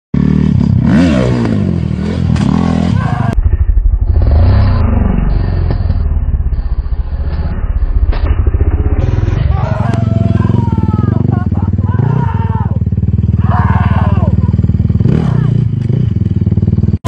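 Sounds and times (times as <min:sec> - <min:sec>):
motorcycle engines revving: 0:00.2 - 0:17.0.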